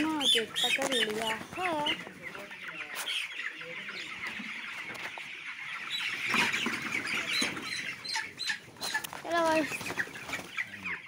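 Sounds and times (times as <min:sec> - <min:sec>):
chickens peeping and clucking: 0:00.0 - 0:11.0.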